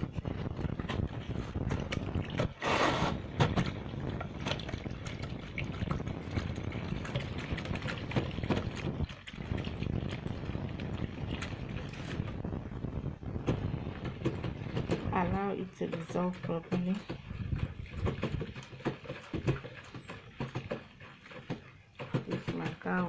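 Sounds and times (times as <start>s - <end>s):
rush of liquid: 0.0s - 23.0s
water stirred and sloshing: 0.0s - 23.0s.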